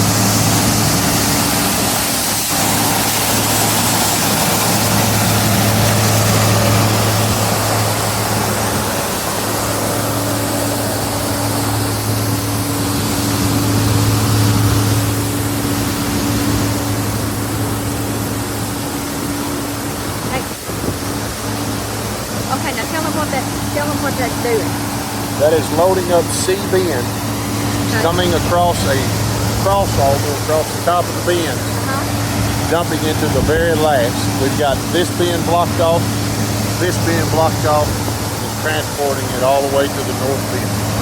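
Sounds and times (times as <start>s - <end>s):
engine and auger hum: 0.0s - 41.0s
grain rushing hiss: 0.0s - 41.0s.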